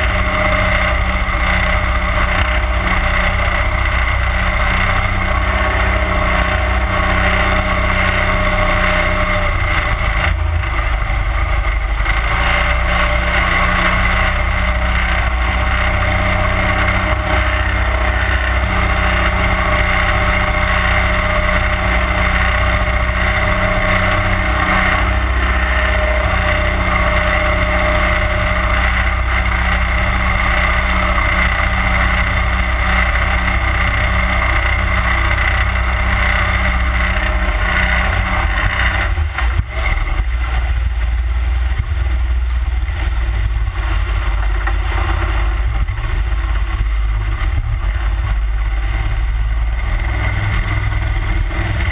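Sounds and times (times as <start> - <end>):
boat motor running: 0.0 - 51.9.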